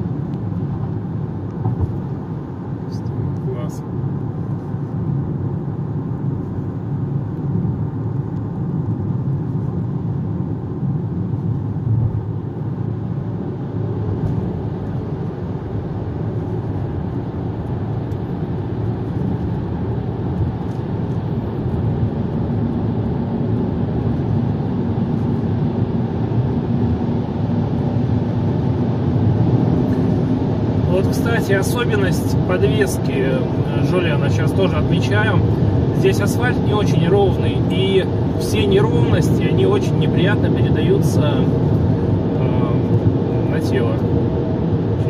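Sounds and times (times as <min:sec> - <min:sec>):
car interior road rumble: 0:00.0 - 0:45.0.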